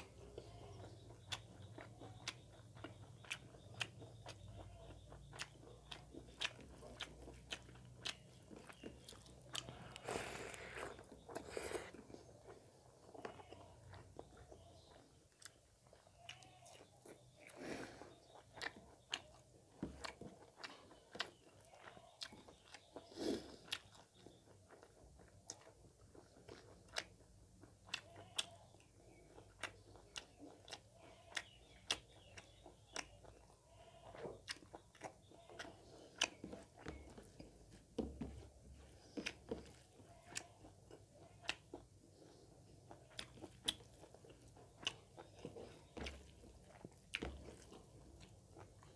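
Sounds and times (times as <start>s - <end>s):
chewing: 0.0s - 48.9s.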